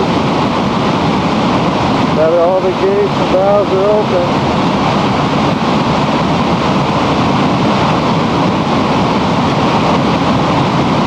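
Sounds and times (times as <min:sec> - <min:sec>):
rush of water through dam: 0:00.0 - 0:11.0.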